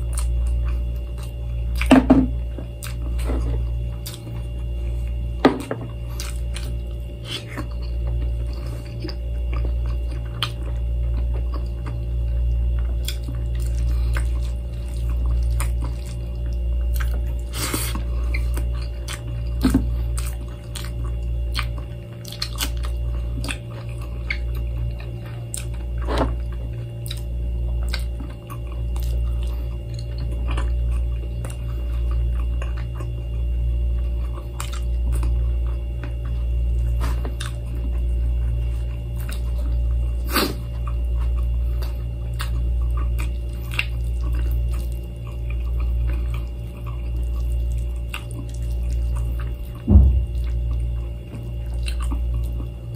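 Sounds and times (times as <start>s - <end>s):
low hum: 0.0s - 52.9s
person chewing food: 0.0s - 52.9s.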